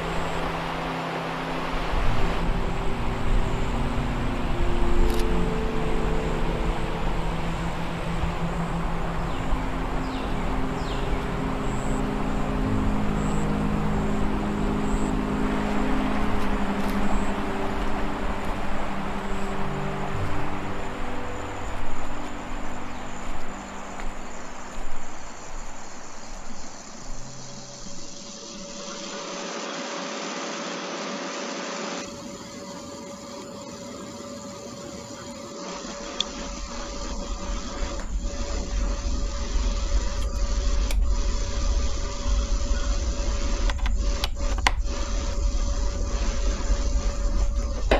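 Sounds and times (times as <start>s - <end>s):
low rumbling ambience: 0.0s - 29.5s, 34.6s - 47.9s
constant hum: 0.0s - 30.8s, 31.8s - 47.9s
creek water rushing: 0.0s - 40.1s
low droning film score: 0.0s - 47.9s
steady hiss-like noise: 0.0s - 47.9s.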